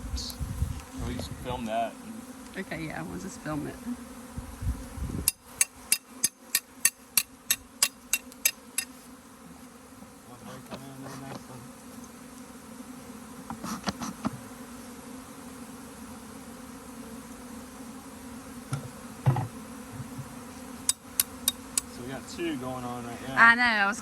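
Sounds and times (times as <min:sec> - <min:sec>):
bee swarm buzzing: 0:00.0 - 0:24.0.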